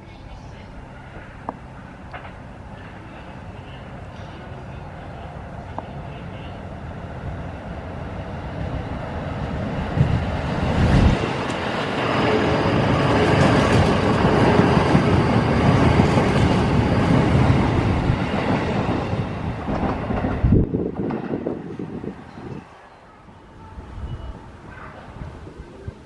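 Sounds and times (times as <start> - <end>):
electric train rumble and rail noise: 0.0 - 26.0.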